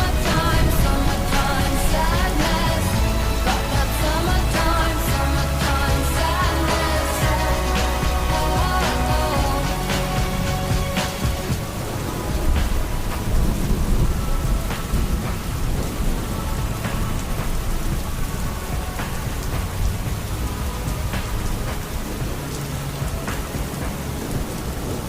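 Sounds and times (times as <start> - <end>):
heavy rain: 0.0 - 25.0
rain drops ticking: 0.0 - 25.0
thunder rumbling: 0.0 - 25.0.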